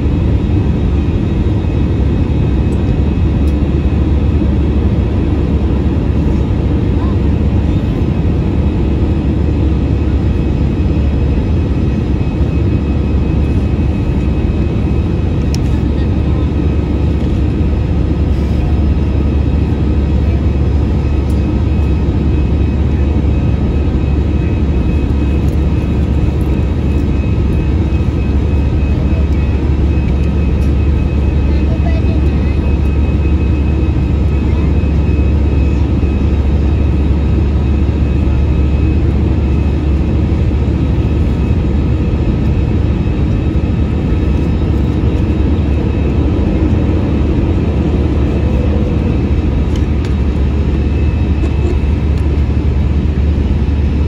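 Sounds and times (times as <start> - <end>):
jet engine rumble: 0.0 - 54.0.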